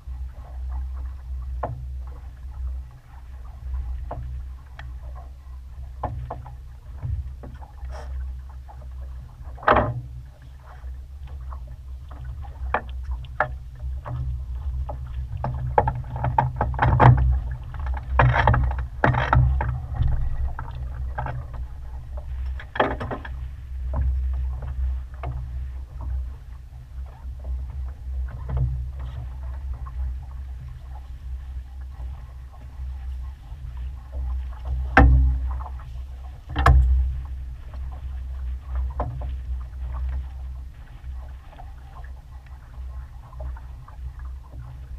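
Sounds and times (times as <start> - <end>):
water slapping against boat hull: 0.0 - 44.9
wind rumble on microphone: 0.0 - 44.9.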